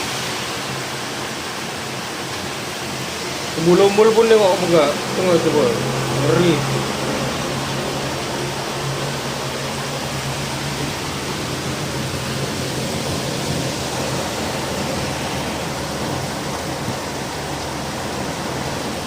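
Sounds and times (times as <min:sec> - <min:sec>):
heavy rain: 0:00.0 - 0:19.0
strong wind: 0:00.0 - 0:19.0.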